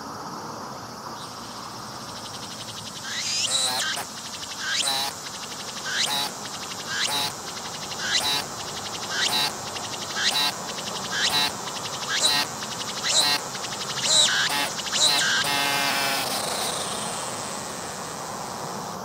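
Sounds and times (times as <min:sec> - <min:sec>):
cicada singing: 0:00.2 - 0:19.0.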